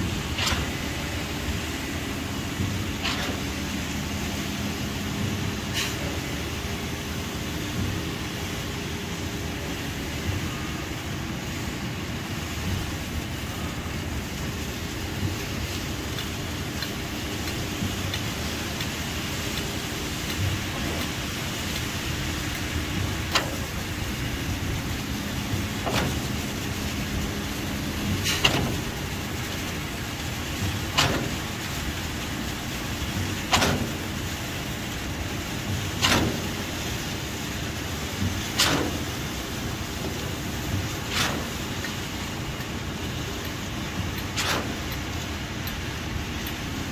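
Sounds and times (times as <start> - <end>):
construction machinery rumbling: 0.0 - 46.9.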